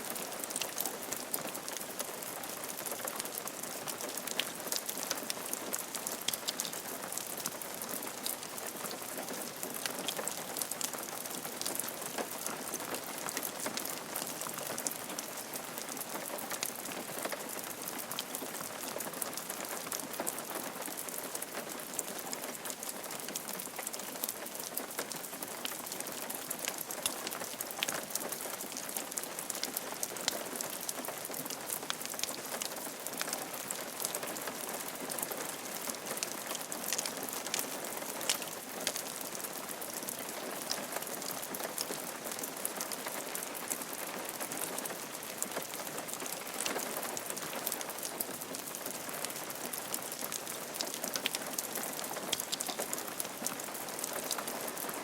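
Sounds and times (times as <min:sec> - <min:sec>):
rain falling on a roof: 0:00.0 - 0:55.0.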